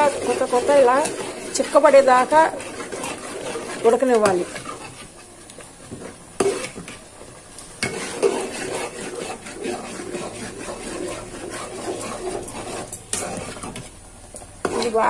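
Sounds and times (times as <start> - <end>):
spatula stirring thick paste: 0.0 - 15.0.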